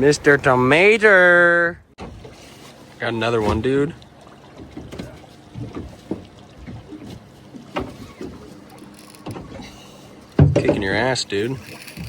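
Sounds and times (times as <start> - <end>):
boat knocks and creaks: 1.9 - 12.0
water slapping against hull: 1.9 - 12.0.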